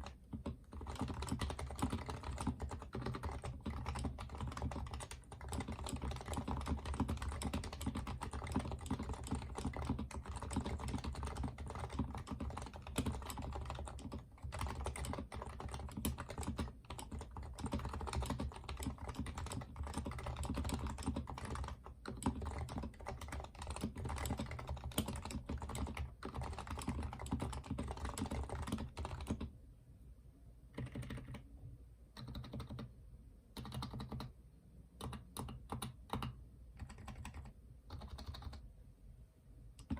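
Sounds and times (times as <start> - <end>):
typing on a keyboard: 0.0 - 29.5, 30.7 - 31.5, 32.2 - 32.9, 33.6 - 34.3, 35.0 - 38.6.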